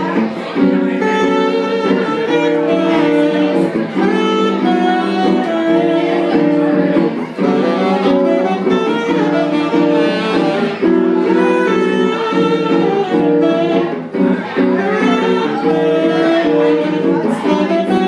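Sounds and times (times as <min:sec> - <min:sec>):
guitar accompaniment: 0:00.0 - 0:18.0
tenor saxophone jazz melody: 0:00.0 - 0:18.0.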